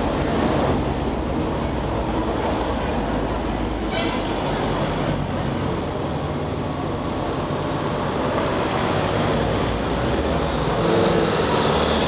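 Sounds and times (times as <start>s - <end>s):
cars and vans driving past: 0.0s - 12.0s.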